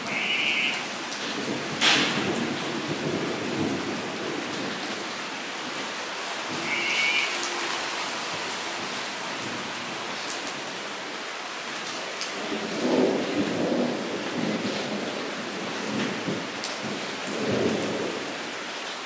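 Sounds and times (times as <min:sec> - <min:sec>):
thunder rumbling: 0:00.0 - 0:10.2, 0:12.4 - 0:18.4
rain falling into puddle: 0:00.0 - 0:19.0.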